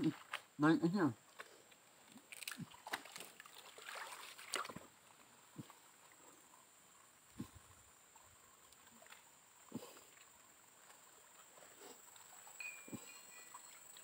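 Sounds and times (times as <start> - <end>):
faint high hiss: 0.0 - 14.0.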